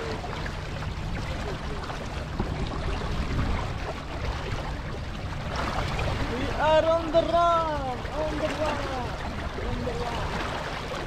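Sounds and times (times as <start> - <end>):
rushing water: 0.0 - 11.0
wind rumbling on microphone: 0.0 - 11.0.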